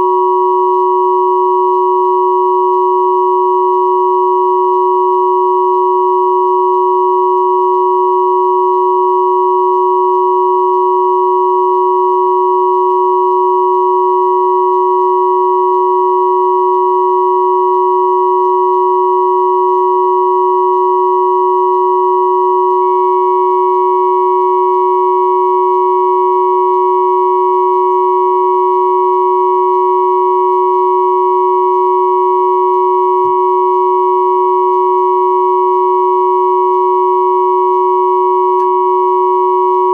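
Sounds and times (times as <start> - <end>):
faint higher tone: 0.0 - 29.3, 30.1 - 39.9
steady sine tone chord: 0.0 - 39.9.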